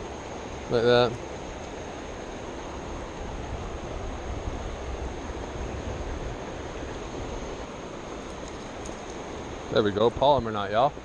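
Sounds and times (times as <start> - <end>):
mountain stream rushing: 0.0 - 11.0.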